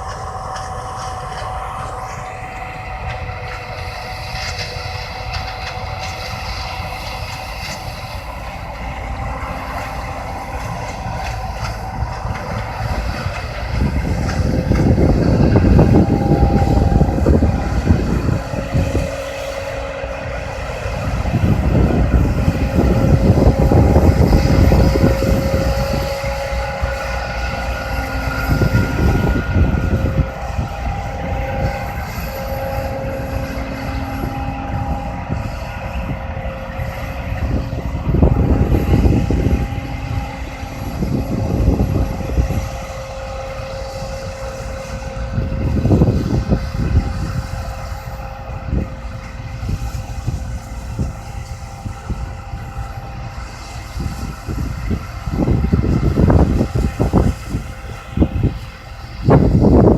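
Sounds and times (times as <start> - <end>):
combine harvester drone: 0.0 - 59.9
low rumble: 0.0 - 59.9.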